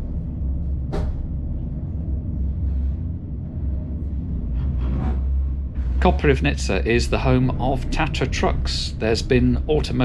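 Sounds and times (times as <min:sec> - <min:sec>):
diesel railcar rumble: 0:00.0 - 0:10.0.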